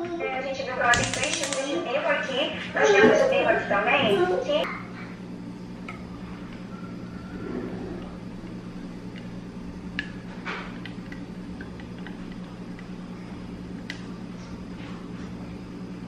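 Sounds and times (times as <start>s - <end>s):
appliance humming: 0.0s - 16.0s.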